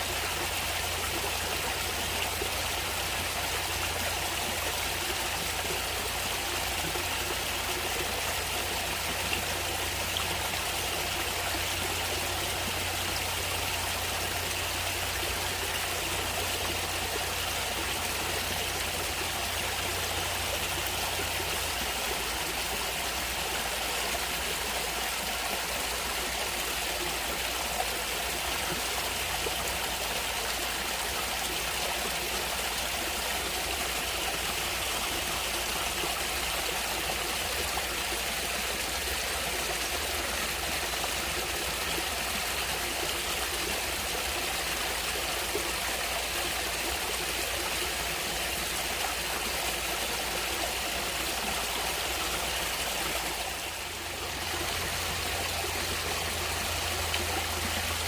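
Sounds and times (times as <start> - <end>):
stream water flowing and trickling: 0.0 - 58.0.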